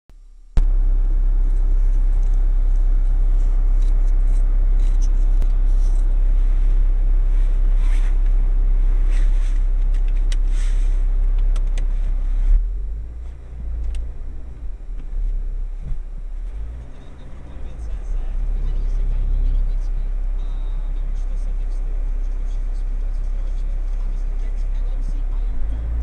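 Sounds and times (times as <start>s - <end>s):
car rumble from inside cabin: 0.1s - 26.0s.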